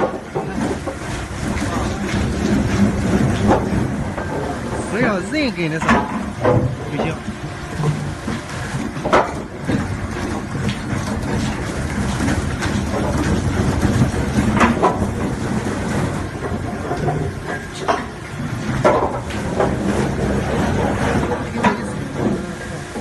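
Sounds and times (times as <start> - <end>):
log debarker rumbling clatter: 0.0 - 23.0.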